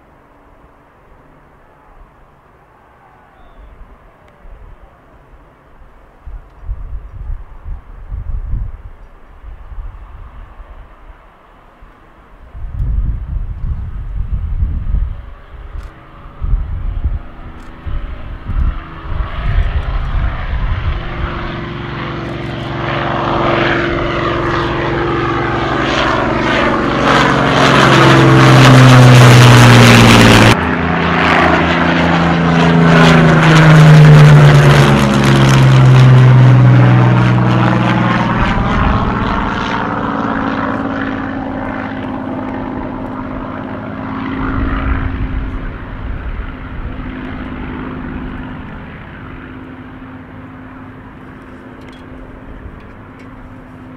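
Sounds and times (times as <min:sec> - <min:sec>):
propeller plane flying overhead: 0:00.0 - 0:53.9.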